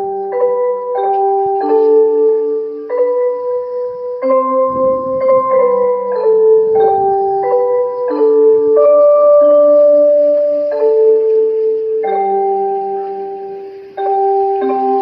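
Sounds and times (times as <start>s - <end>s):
electronic chime melody: 1.4s - 15.0s.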